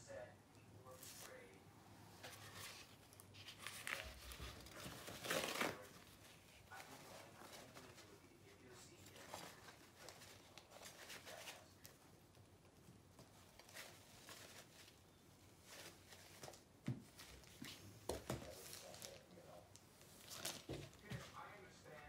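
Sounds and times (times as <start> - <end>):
faint rustling: 0.9 - 22.0.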